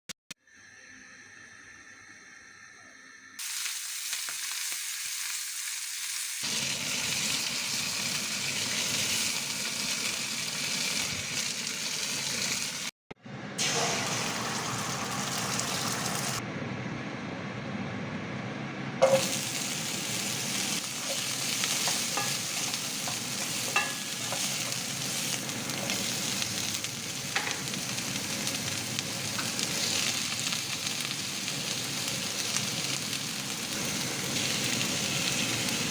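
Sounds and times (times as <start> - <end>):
food sizzling in a pan: 3.4 - 12.9, 13.6 - 16.4, 19.0 - 35.9.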